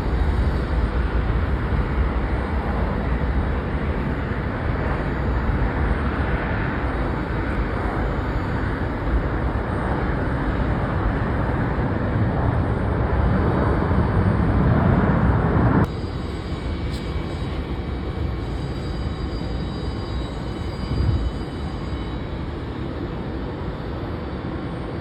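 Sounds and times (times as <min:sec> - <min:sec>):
quieter rumble with high whine: 0:00.0 - 0:21.7
jet engine rumble: 0:00.0 - 0:25.0.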